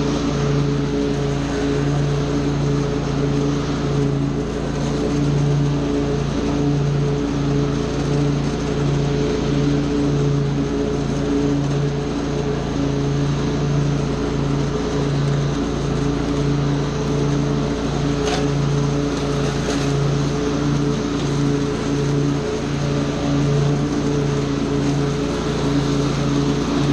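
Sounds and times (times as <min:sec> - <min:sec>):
small gasoline engine running: 0:00.0 - 0:26.9.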